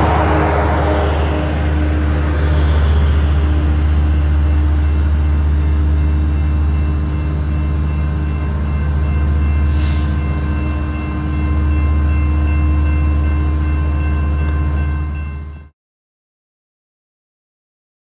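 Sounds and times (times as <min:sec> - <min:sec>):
diesel train rumbling away: 0:00.0 - 0:15.3.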